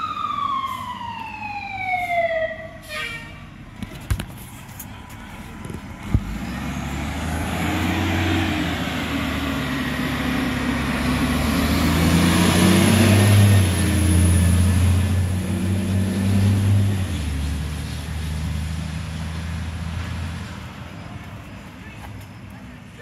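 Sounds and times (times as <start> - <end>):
fire engine diesel rumble: 0.0 - 23.0.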